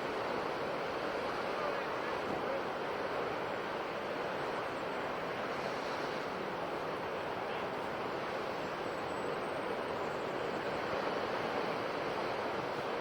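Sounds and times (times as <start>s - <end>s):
ocean waves breaking on shore: 0.0s - 13.0s.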